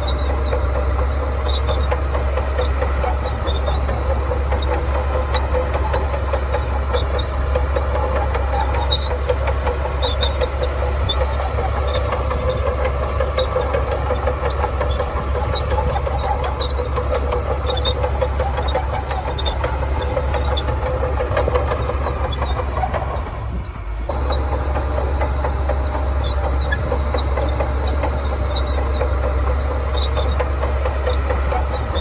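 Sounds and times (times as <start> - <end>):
bulldozer diesel engine rumble: 0.0 - 32.0.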